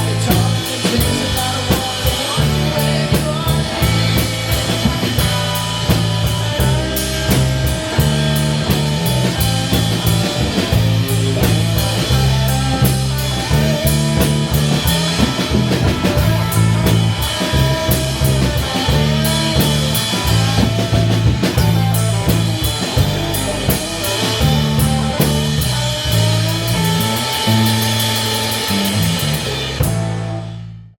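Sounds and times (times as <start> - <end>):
bass notes: 0.0 - 30.9
drum kit beat: 0.0 - 30.9
electric guitar: 0.0 - 30.9.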